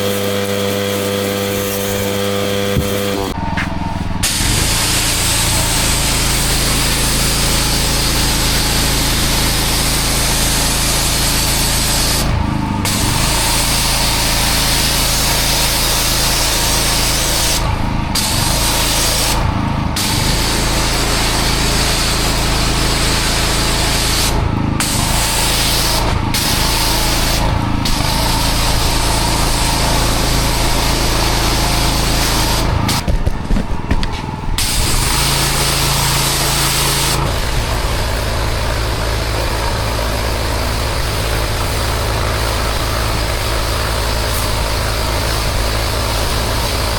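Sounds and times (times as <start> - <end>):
machine hum: 0.0 - 46.9
pressure washer water jet hissing: 0.0 - 46.9.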